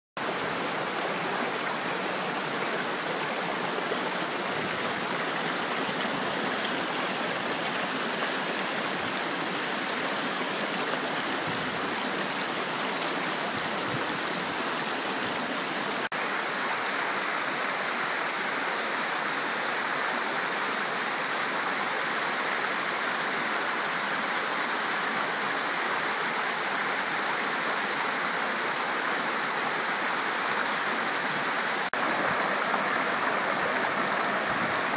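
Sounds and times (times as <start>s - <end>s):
stream rushing over rocks: 0.2s - 34.9s.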